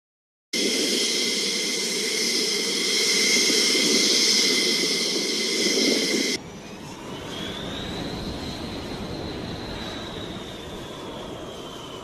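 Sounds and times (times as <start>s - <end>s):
jet engines whining: 0.6s - 12.0s.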